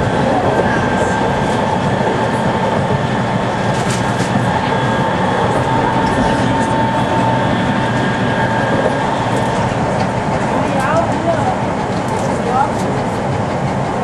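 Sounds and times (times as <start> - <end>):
constant whine: 0.0 - 14.0
tram wheels rumbling on rails: 0.0 - 14.0.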